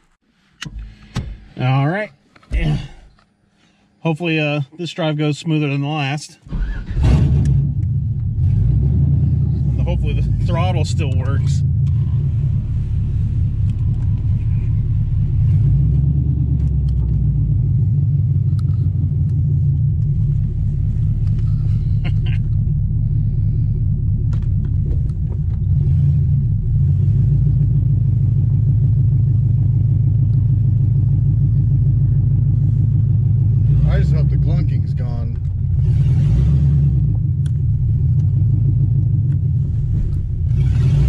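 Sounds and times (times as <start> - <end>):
car engine low rumble: 0.0 - 41.0.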